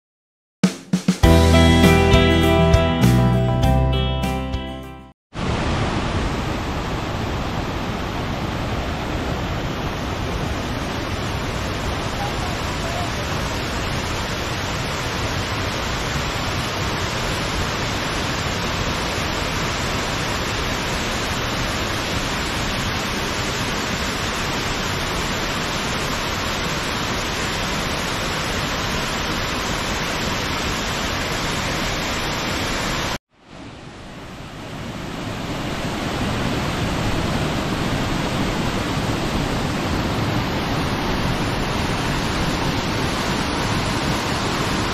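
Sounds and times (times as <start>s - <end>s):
waterfall rushing: 5.4s - 44.9s.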